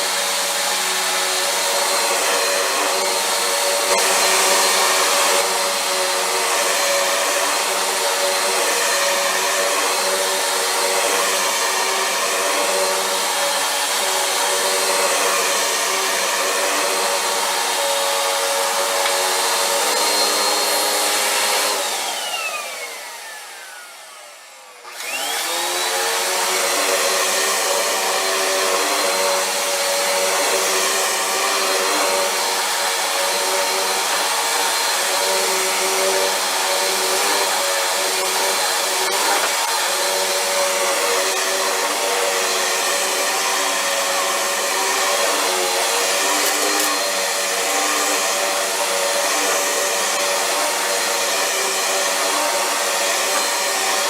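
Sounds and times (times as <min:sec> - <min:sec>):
vacuum cleaner whining: 0:00.0 - 0:54.0.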